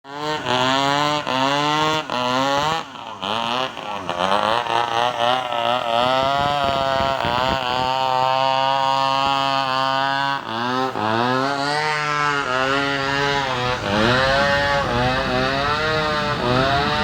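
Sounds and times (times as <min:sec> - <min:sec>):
engine running and revving: 0:00.1 - 0:17.0.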